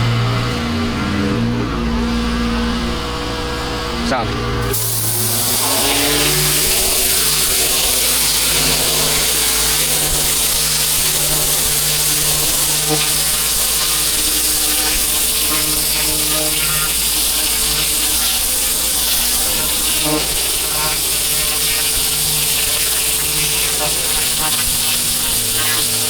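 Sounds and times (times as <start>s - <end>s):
motor and pump hum: 0.0s - 26.0s
pressure washer water jet hiss: 4.6s - 26.0s.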